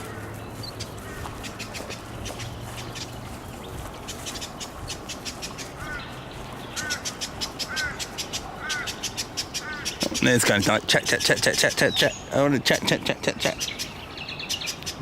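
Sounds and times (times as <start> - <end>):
birds giving harsh calls: 0.0 - 15.0.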